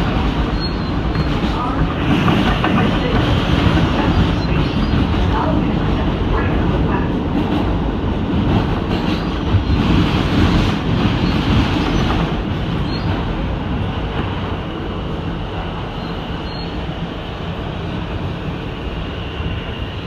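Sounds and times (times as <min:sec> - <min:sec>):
subway car wheels rumbling: 0:00.0 - 0:20.0.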